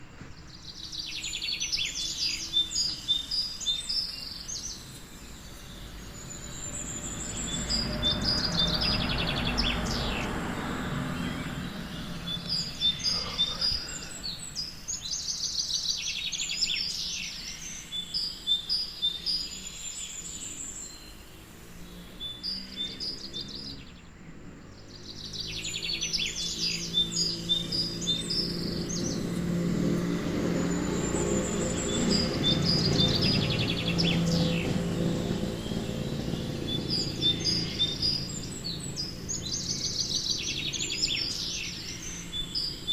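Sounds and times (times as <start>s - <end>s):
birds trilling and twittering: 0.0s - 42.9s.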